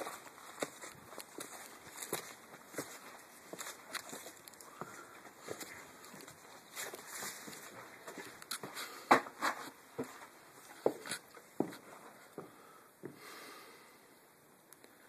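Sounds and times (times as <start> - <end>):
footsteps indoors: 0.0 - 13.3.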